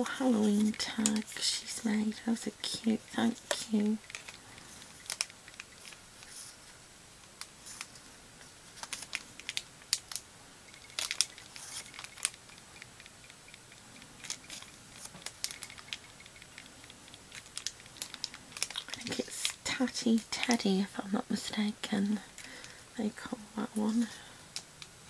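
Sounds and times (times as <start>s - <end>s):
card and paper clicks and rustles: 0.2s - 20.7s.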